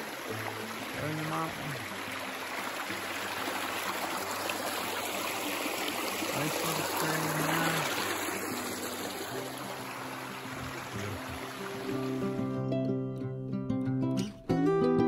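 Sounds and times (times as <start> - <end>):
stream rushing over rocks: 0.0 - 12.6.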